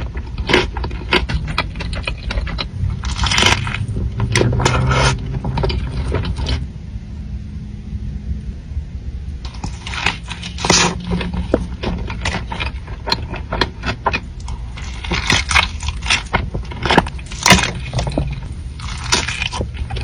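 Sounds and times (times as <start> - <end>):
chewing and biting: 0.0 - 6.6, 9.5 - 20.0
wet crackles and smacks: 0.0 - 6.6, 9.4 - 20.0
low steady hum: 0.0 - 20.0.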